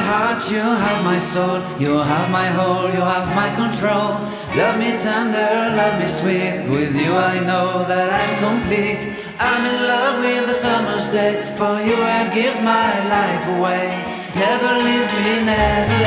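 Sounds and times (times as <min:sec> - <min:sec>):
background music with singing: 0:00.0 - 0:16.0.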